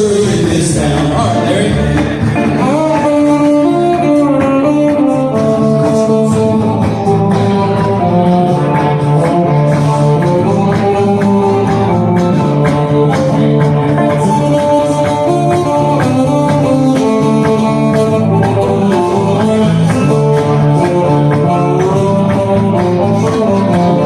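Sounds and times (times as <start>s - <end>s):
acoustic guitars strumming: 0.0s - 24.0s
bowed upright bass solo: 0.0s - 24.0s.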